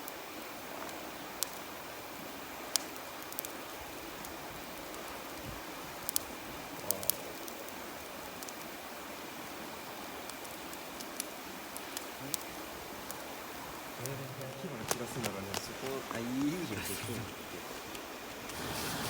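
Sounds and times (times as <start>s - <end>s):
campfire crackling and popping: 0.0s - 19.0s
river flowing: 0.1s - 19.0s.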